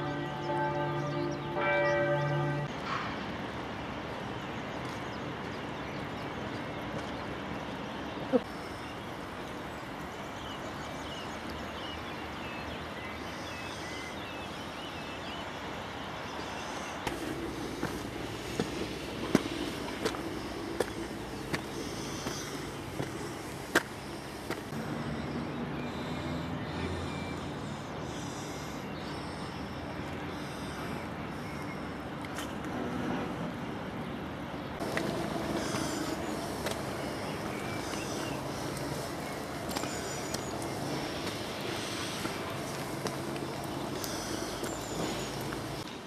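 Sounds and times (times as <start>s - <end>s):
outdoor hum and hiss: 0.0s - 46.0s.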